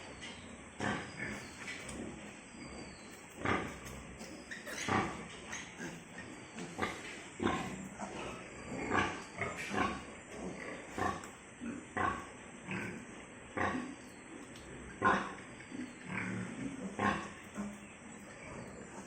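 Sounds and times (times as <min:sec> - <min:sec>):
pigs grunting and squealing: 0:00.0 - 0:19.0.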